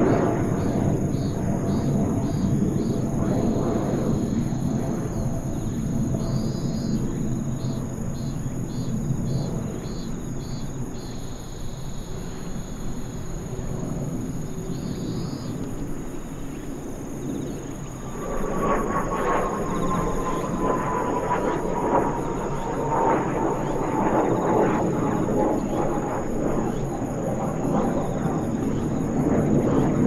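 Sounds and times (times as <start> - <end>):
distant jet engines passing overhead: 0.0 - 30.0
insects chirping: 0.0 - 30.0.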